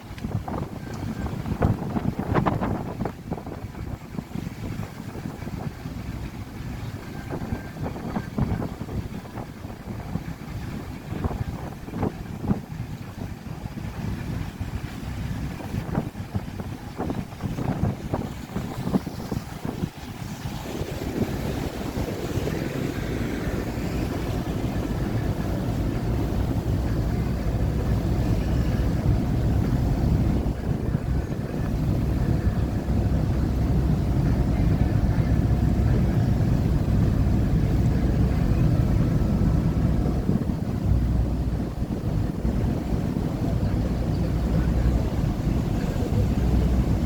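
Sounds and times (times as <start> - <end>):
boat engine rumbling: 0.0 - 47.0
water noise: 0.0 - 47.0
wind noise: 0.0 - 47.0.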